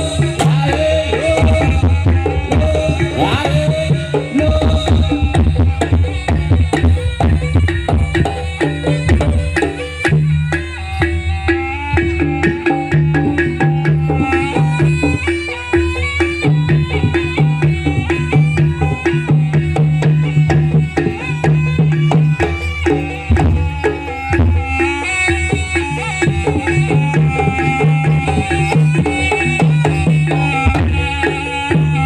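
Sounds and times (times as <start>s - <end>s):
gamelan music: 0.0s - 32.0s
rapid hand drum strokes: 0.0s - 32.0s.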